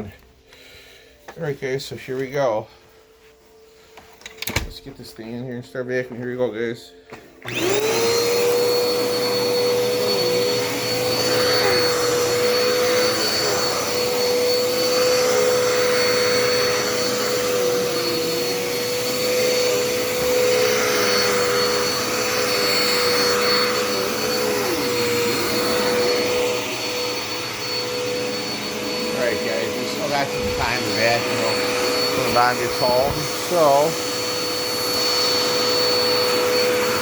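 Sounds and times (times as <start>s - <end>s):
vacuum cleaner motor whine: 7.0s - 37.0s.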